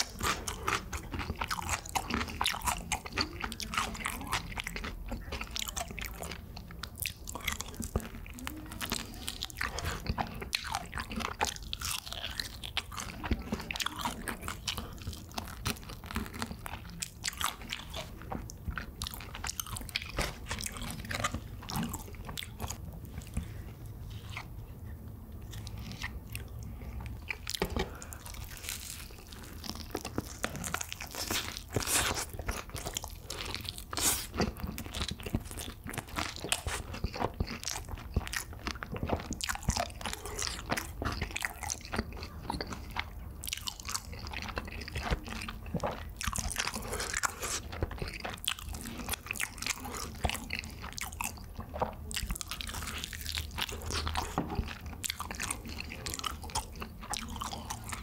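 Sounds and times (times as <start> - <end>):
crispy chicken crunching: 0.0 - 58.0
wet chewing: 0.0 - 58.0.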